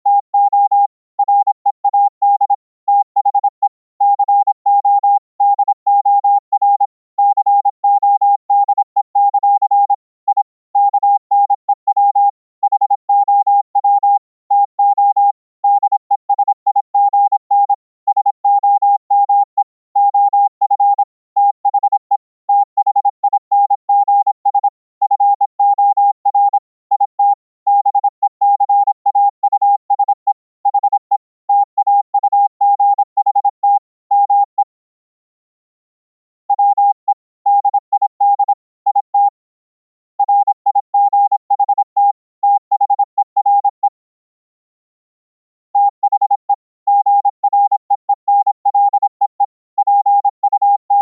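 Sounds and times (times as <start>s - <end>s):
morse code beeps: 0.1s - 34.7s, 36.5s - 39.4s, 40.2s - 43.8s, 45.8s - 51.0s.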